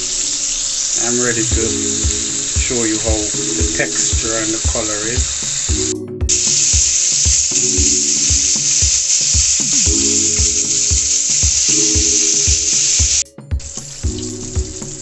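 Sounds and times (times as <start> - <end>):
fish sizzling in hot oil: 0.0 - 15.0
background music with beat: 1.0 - 15.0.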